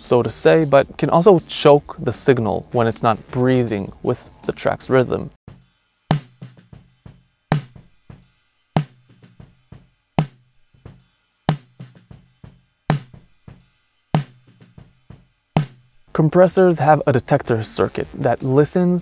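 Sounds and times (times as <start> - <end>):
drum kit loop: 0.0 - 19.0.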